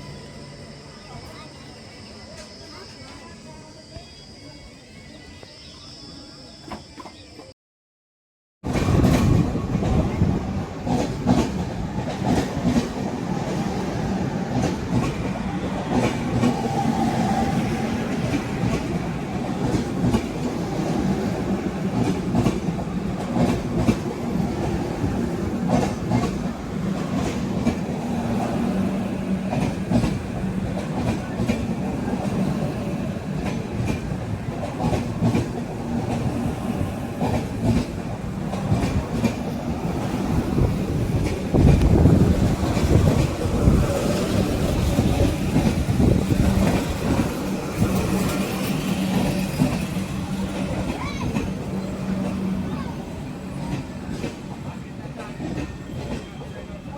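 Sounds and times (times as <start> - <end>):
train rumbling: 8.6 - 56.9.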